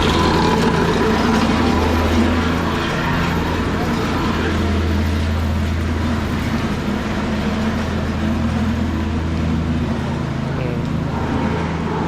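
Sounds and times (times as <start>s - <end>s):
plate compactor running: 0.0s - 12.0s.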